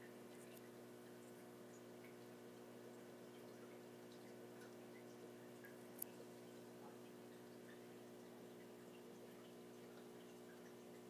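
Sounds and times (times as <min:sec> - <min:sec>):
aquarium filter hum: 0:00.0 - 0:11.0
water dripping: 0:00.0 - 0:11.0.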